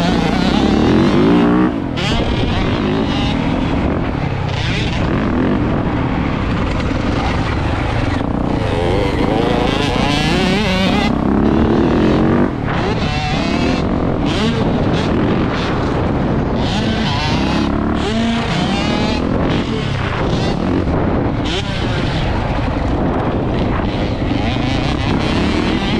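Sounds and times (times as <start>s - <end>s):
dirt bike engine revving: 0.0s - 25.9s
steady rush of noise: 0.0s - 25.9s.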